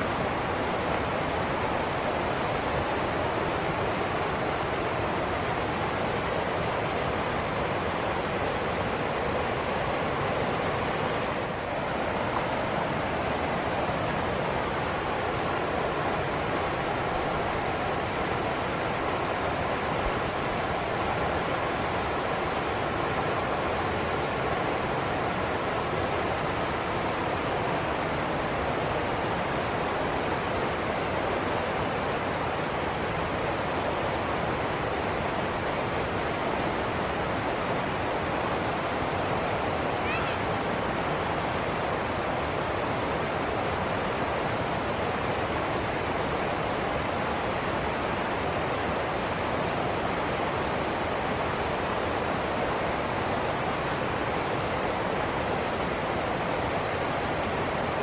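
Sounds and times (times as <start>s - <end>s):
river water rushing over rocks: 0.0s - 58.0s.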